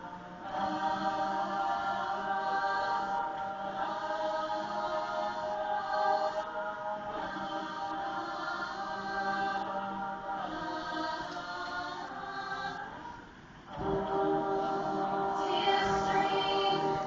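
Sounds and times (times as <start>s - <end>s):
show choir singing chords: 0.0s - 17.0s.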